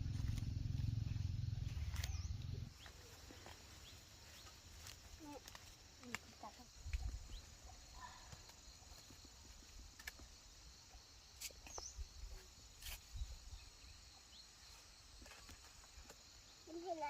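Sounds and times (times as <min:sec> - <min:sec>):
high insect hum: 0:00.0 - 0:17.0.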